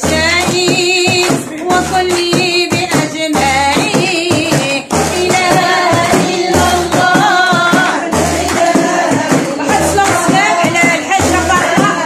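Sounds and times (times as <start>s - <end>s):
frame drum strokes: 0.0s - 12.0s
woman singing: 0.0s - 12.0s.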